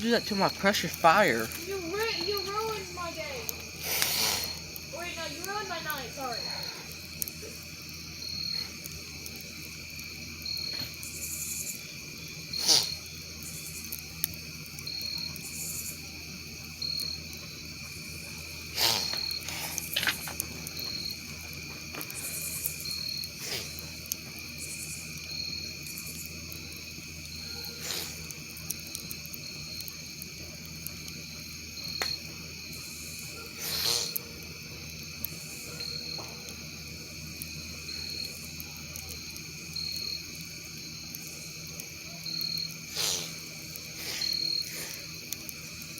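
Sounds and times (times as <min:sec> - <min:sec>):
campfire crackling and popping: 0:00.0 - 0:45.9
crickets trilling: 0:00.0 - 0:45.9
high insect chirp: 0:00.0 - 0:45.9.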